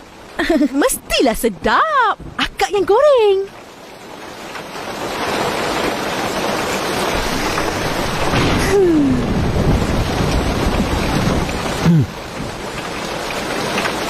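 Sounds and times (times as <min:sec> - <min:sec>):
heavy rain with wind: 0:00.0 - 0:14.0.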